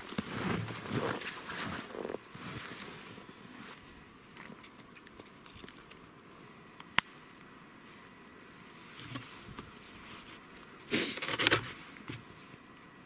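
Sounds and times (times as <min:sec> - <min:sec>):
soft handling noises: 0:00.0 - 0:13.0.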